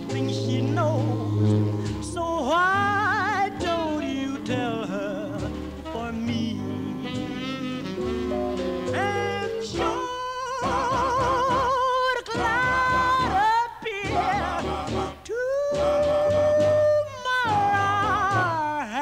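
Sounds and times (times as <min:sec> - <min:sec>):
backing vocal harmonies: 0:00.0 - 0:19.0
bass: 0:00.0 - 0:19.0
person singing with wide vibrato: 0:00.0 - 0:19.0.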